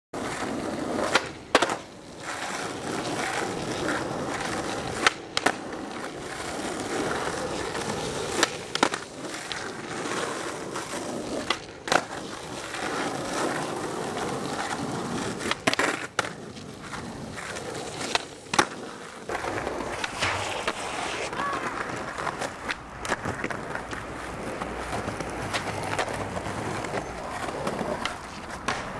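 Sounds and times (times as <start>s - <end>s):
skateboard clacks: 0.2s - 28.9s
skateboard wheels rolling on pavement: 0.2s - 28.9s.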